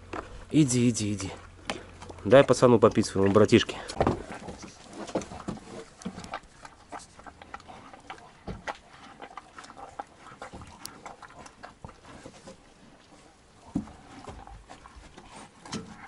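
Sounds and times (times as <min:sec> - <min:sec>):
calf slurping and lapping: 0:00.0 - 0:16.0.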